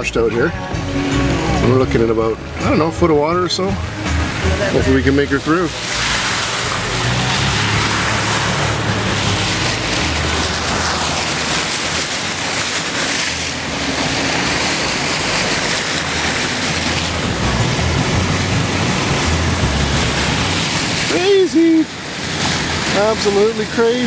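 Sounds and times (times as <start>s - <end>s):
car engine running low: 0.0s - 24.0s
floodwater rushing and splashing: 0.0s - 24.0s.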